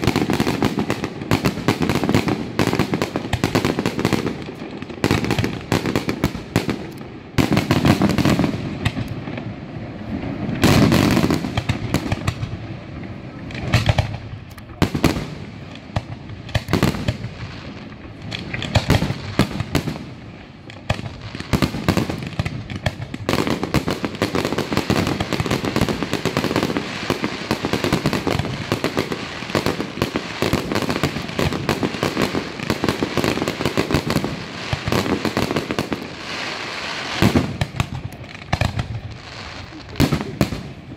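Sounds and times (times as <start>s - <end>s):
fireworks booming: 0.0s - 40.9s
fireworks crackling: 0.0s - 40.9s.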